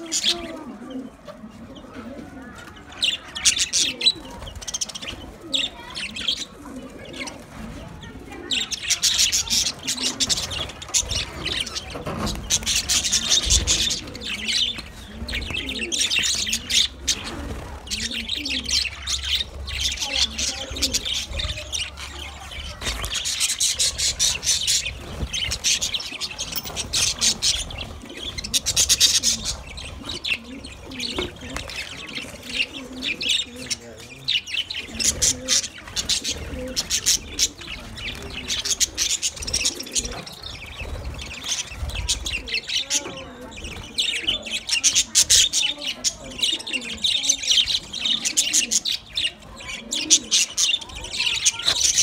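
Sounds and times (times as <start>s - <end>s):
budgerigars chattering: 8.0s - 52.0s.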